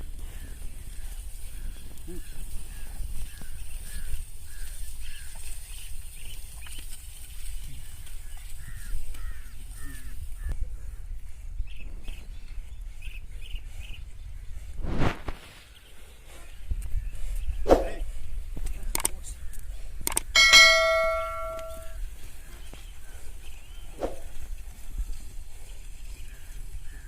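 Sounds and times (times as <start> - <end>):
birds calling: 0.1 - 7.0, 7.6 - 14.8, 15.4 - 24.6.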